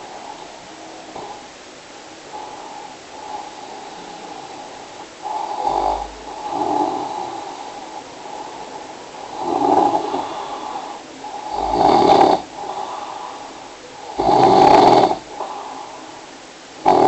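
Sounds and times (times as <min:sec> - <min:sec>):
person snoring: 0:02.3 - 0:16.1.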